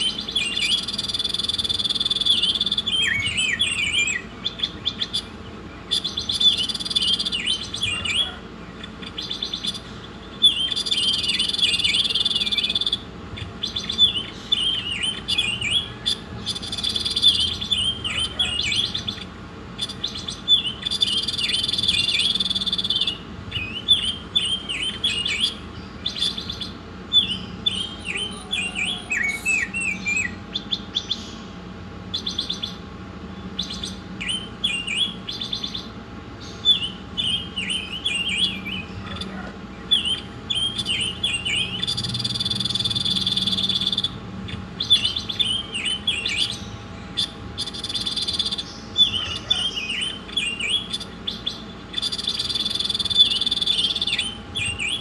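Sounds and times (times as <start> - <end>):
songbird chirping: 0.0 - 55.0.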